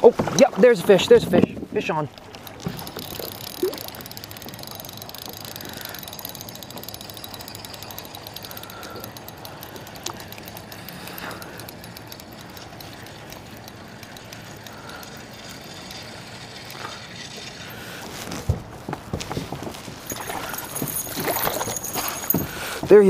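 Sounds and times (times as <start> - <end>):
fishing reel gears ticking: 1.9 - 18.2, 19.9 - 23.0.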